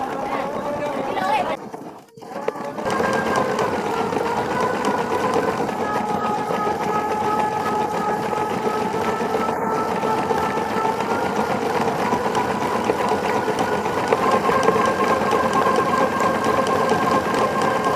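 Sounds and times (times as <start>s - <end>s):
model engine clattering: 0.0s - 17.9s.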